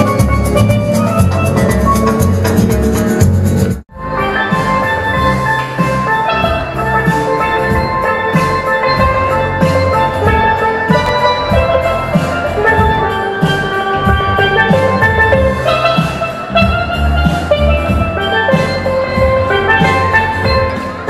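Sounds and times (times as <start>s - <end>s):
drum beat: 0.0s - 3.8s, 4.5s - 21.0s
bass line: 0.0s - 21.0s
steel pan melody: 0.0s - 21.0s.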